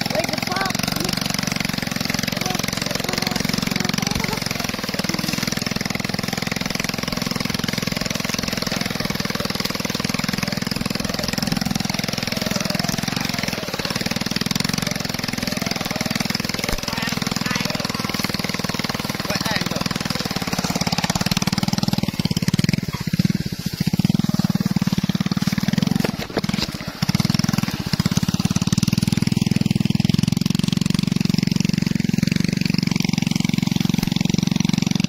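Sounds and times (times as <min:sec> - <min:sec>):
small motorcycle engine running: 0:00.0 - 0:35.0.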